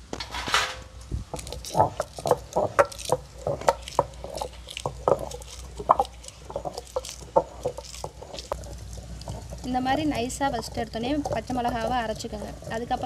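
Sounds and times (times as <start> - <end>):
stone pestle grinding in mortar: 1.0 - 13.0.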